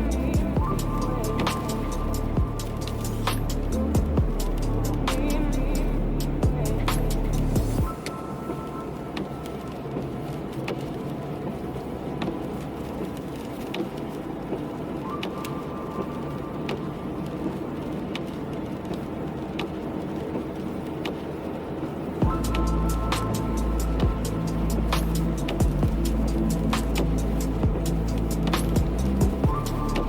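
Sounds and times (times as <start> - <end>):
road and rain noise: 0.0 - 30.0.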